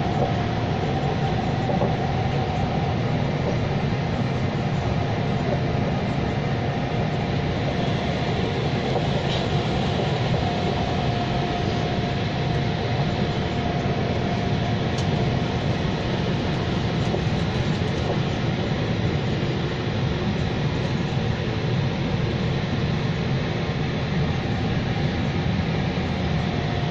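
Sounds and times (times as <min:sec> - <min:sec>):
faint steady whine: 0:00.0 - 0:26.9
train wheels rumbling on rail: 0:00.0 - 0:26.9.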